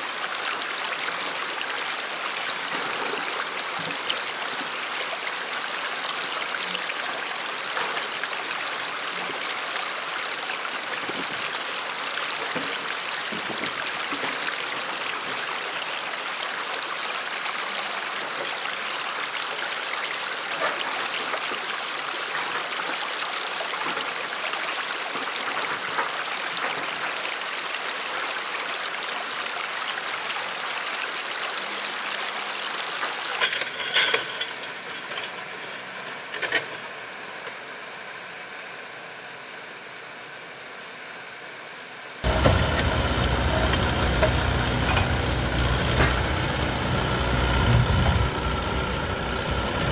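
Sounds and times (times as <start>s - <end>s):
creek water rushing over rocks: 0.0s - 37.6s, 42.2s - 49.9s.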